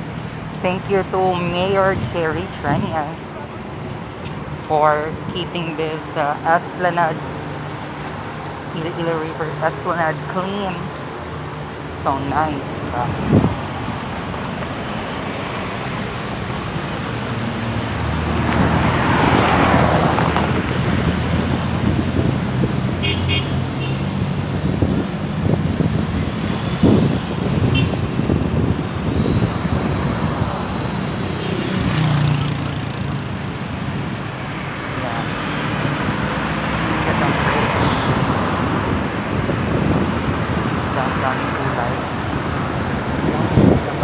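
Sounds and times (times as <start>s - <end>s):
road traffic passing: 0.0s - 44.0s.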